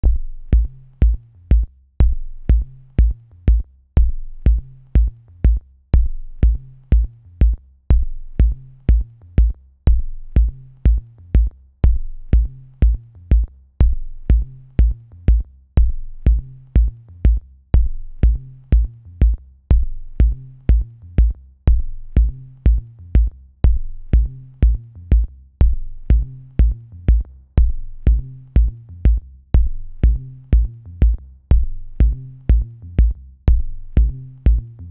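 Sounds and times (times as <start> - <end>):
heavy kick drum: 0.0 - 34.9
low bass line: 0.0 - 34.9.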